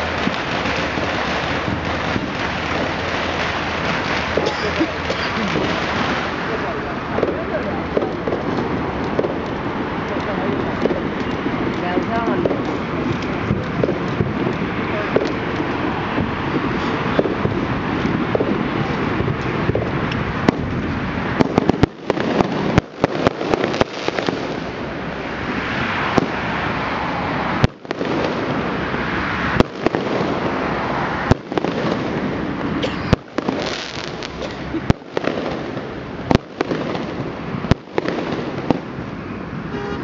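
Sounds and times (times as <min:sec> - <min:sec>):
fireworks bursting: 0:00.0 - 0:40.0
sharp firework bangs: 0:00.0 - 0:40.0.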